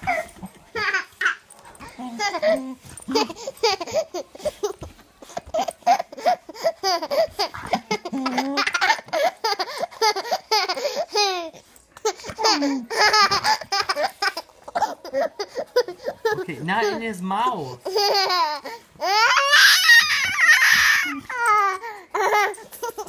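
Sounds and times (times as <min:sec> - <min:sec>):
toddler laughing: 0:00.0 - 0:17.0, 0:17.8 - 0:23.0.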